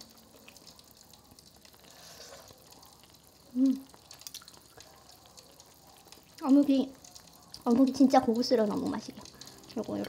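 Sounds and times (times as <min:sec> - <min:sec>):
soup bubbling and hissing: 0:00.0 - 0:10.0.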